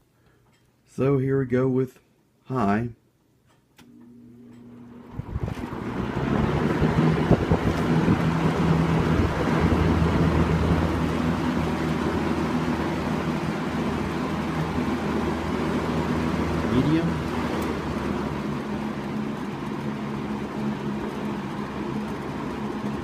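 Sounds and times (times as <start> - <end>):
low motor hum: 3.8 - 23.0
box fan rushing air: 3.9 - 23.0.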